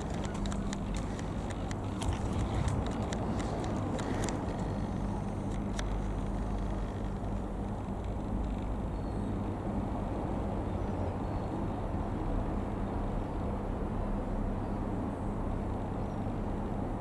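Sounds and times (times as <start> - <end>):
jet engines rumbling: 0.0 - 13.7
faint hum: 0.0 - 17.0.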